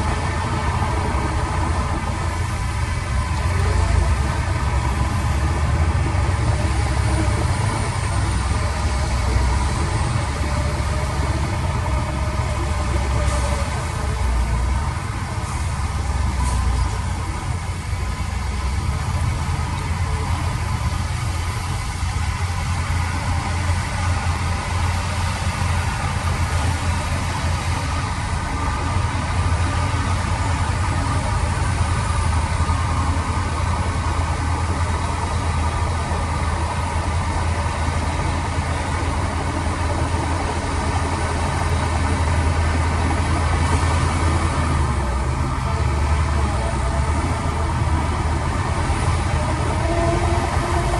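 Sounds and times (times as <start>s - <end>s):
diesel engine low rumble: 0.0s - 50.9s.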